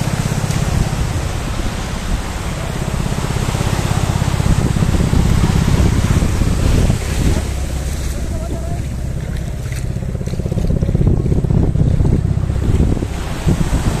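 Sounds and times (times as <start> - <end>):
small waves breaking: 0.0 - 14.0
wind buffeting microphone: 0.0 - 14.0.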